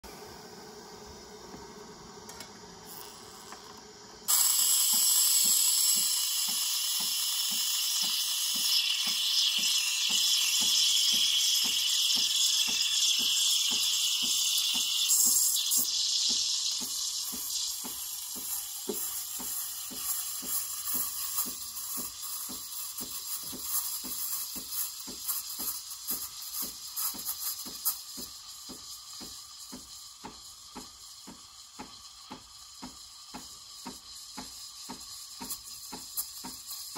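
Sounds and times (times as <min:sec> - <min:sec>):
steam wand hissing into milk: 0:00.0 - 0:36.9
machine pump pulsing: 0:02.8 - 0:36.9.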